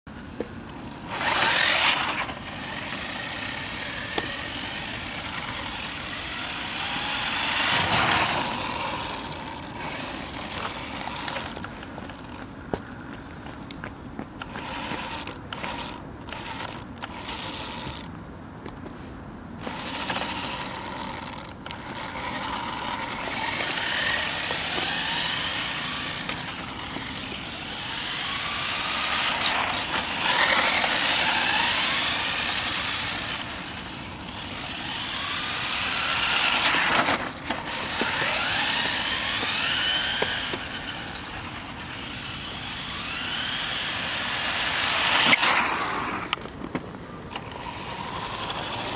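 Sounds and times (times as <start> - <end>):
electric motor and gears whining: 0.3 - 13.7, 14.3 - 18.9, 19.5 - 48.9.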